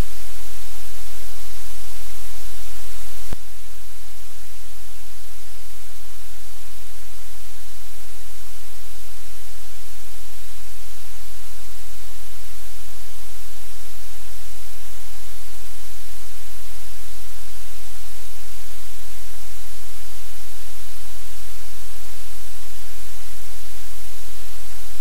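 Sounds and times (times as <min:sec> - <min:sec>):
white noise hiss: 0:00.0 - 0:25.0.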